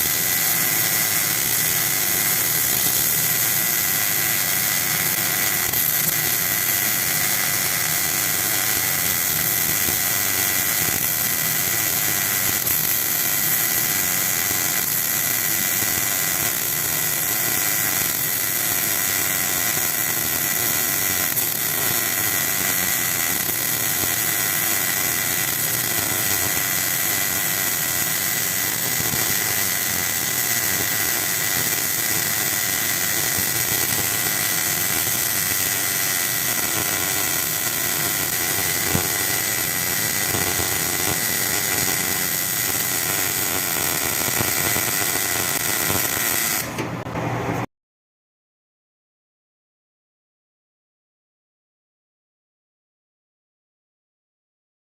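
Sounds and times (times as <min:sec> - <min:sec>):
welding arc hissing: 0:00.0 - 0:47.0
constant high whine: 0:00.0 - 0:47.2.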